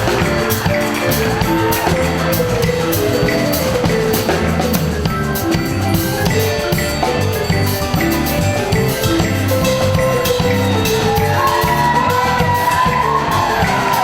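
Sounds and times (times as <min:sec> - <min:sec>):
drum kit steady beat: 0:00.0 - 0:14.0
held instrument notes: 0:00.0 - 0:14.0.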